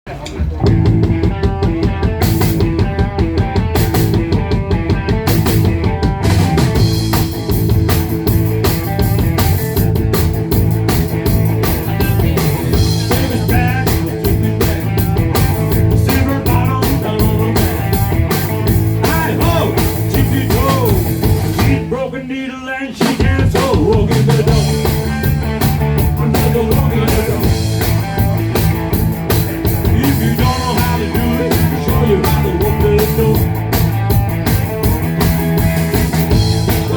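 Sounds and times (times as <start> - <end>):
busy drum kit: 0.0 - 22.1, 22.9 - 36.9
rock band playing: 0.1 - 22.3, 22.9 - 36.9.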